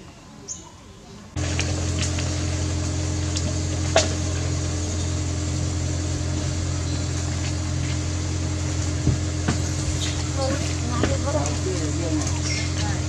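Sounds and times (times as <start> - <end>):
low mechanical hum: 1.3 - 13.0.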